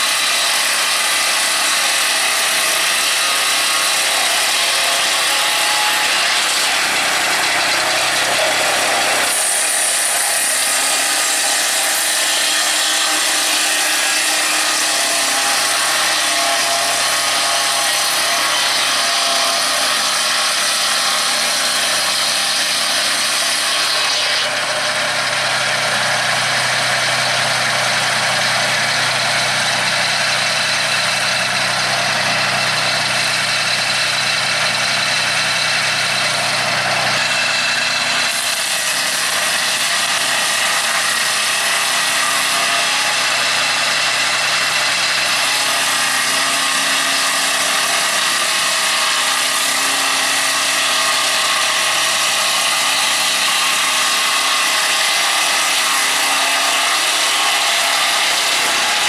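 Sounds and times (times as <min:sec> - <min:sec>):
circular blade cutting log: 0:00.0 - 0:59.0
sawmill engine running: 0:00.0 - 0:59.0.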